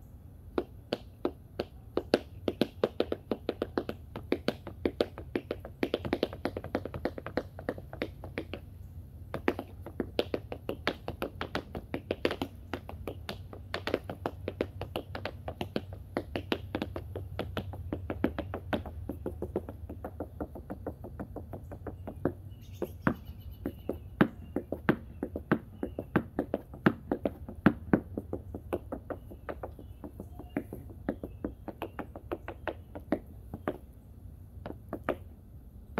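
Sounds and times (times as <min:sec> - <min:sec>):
tap shoes on wooden board: 0:00.5 - 0:33.9, 0:34.6 - 0:35.4.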